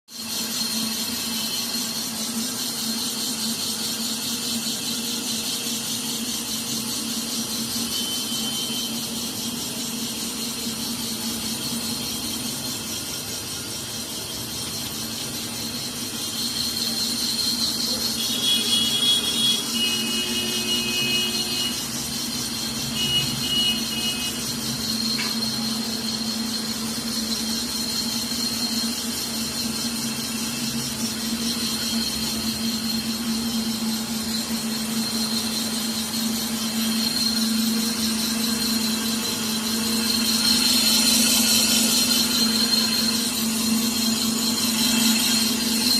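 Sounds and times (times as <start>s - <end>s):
boring machine humming: 0.3s - 45.9s
high squeals from cutting: 7.3s - 12.7s, 14.3s - 45.9s.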